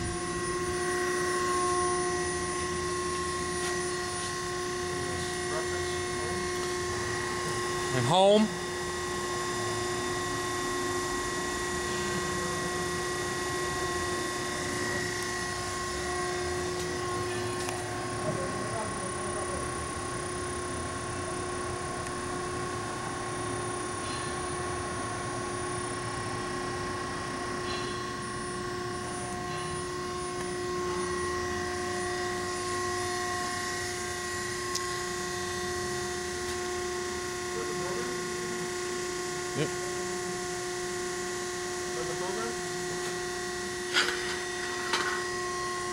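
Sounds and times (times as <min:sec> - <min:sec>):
hydraulic pump and motor hum: 0:00.0 - 0:45.9
machine whining tones: 0:00.0 - 0:45.9.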